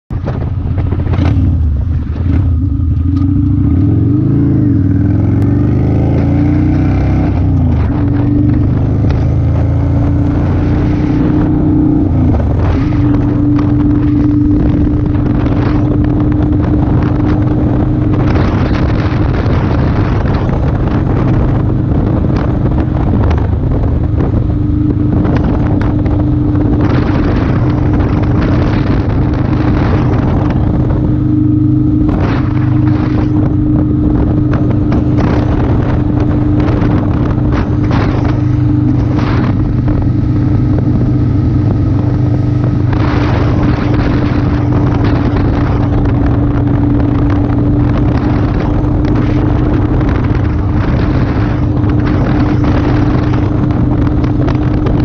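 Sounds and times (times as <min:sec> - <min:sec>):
motorcycle engine running: 0:00.0 - 0:55.0
wind on microphone: 0:00.1 - 0:55.0.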